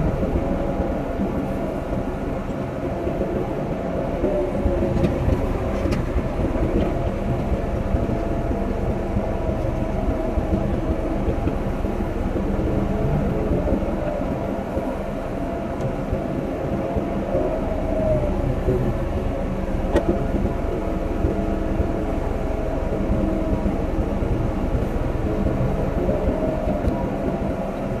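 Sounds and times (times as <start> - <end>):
engine whine: 0.0 - 28.0.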